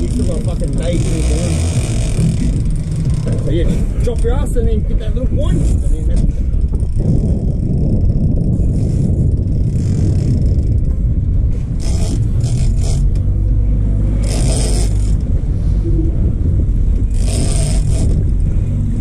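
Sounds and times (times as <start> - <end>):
boat engine rumbling: 0.0 - 19.0
water washing along hull: 0.0 - 19.0
wind buffeting microphone: 0.0 - 19.0.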